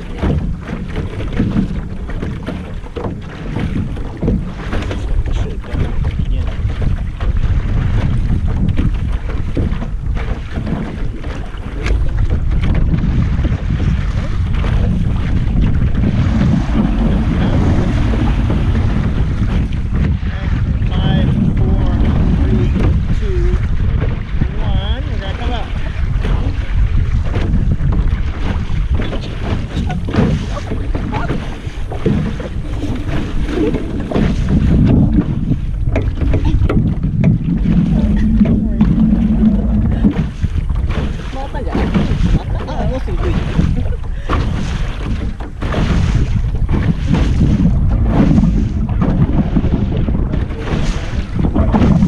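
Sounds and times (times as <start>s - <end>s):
boat gear knocking: 0.0s - 24.7s, 25.7s - 52.0s
water splashing against hull: 0.0s - 52.0s
wind buffeting microphone: 0.0s - 52.0s.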